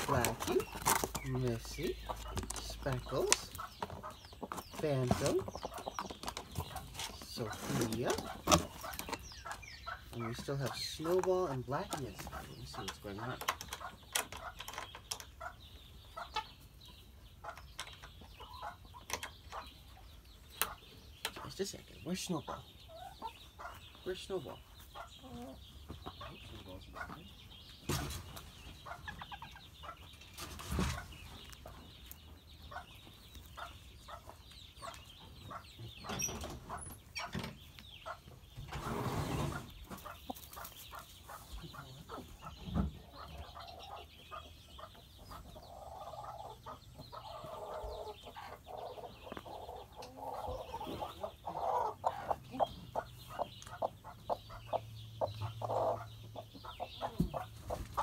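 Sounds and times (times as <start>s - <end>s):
hens clucking: 0.0s - 58.0s.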